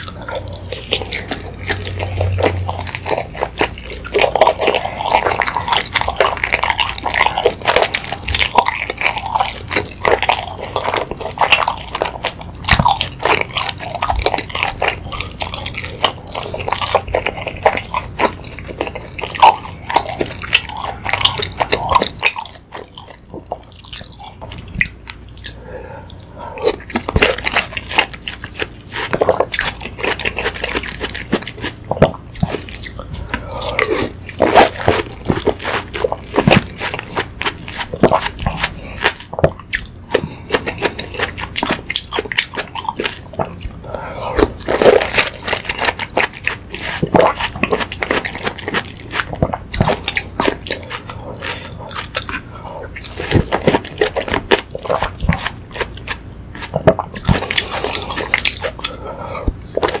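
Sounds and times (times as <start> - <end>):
slurping: 0.0 - 60.0
wet chewing and crunching: 0.0 - 60.0.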